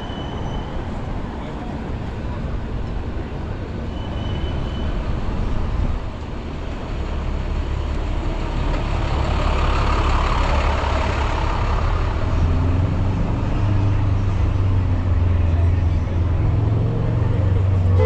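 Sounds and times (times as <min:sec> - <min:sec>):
city street traffic: 0:00.0 - 0:18.0
heavy vehicle engine running: 0:01.8 - 0:18.0.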